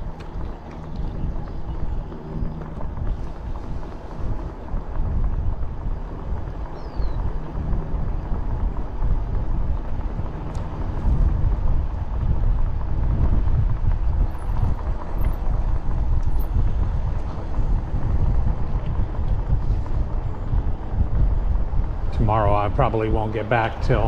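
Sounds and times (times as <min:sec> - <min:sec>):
road noise: 0:00.0 - 0:24.0
wind buffeting microphone: 0:00.0 - 0:24.0.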